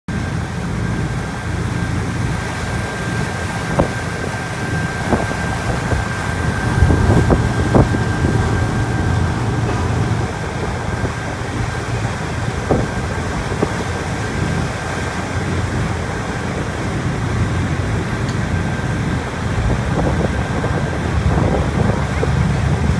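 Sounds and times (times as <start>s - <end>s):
boat engine running: 0.1s - 22.9s
water noise: 0.1s - 22.9s
wind: 0.1s - 22.9s.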